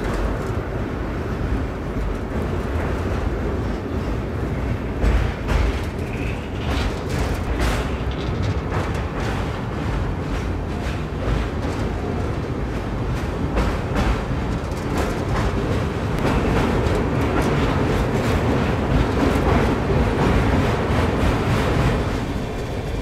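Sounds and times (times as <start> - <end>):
train rumbling on rails: 0.0 - 23.0
wheels clicking over rail joints: 0.0 - 23.0.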